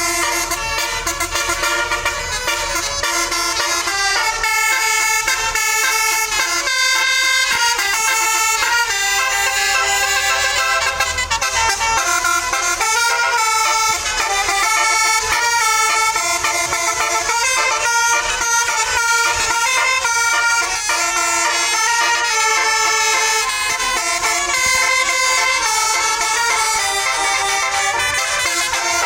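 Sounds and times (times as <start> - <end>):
air horns playing a tune: 0.0 - 29.0.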